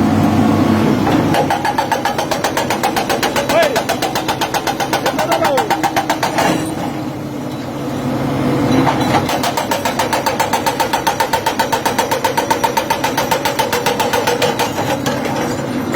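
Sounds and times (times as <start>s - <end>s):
excavator engine pulsing: 0.0s - 15.9s.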